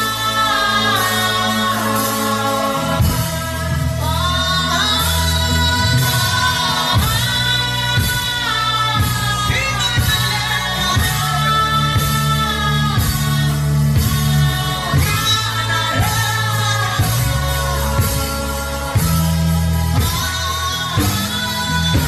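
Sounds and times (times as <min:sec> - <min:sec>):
sustained low backing chords: 0:00.0 - 0:22.0
wordless gospel humming and singing: 0:00.0 - 0:22.0.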